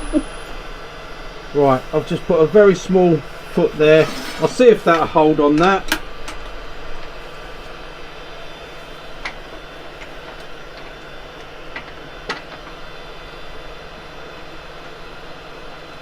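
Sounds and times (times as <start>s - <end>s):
workshop hum: 0.0s - 16.0s.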